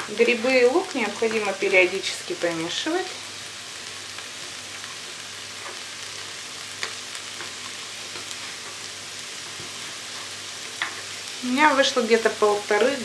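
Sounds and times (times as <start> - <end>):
mushrooms and onion sizzling in oil: 0.0 - 13.0.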